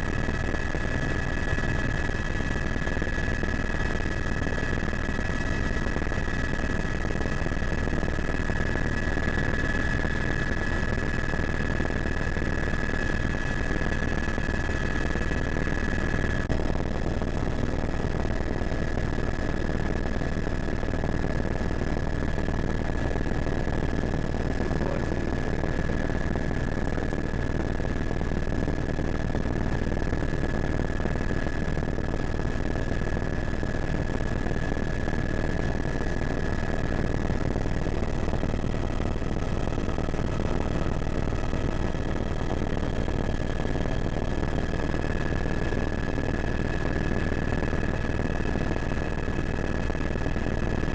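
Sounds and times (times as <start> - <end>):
helicopter running: 0.0 - 50.9.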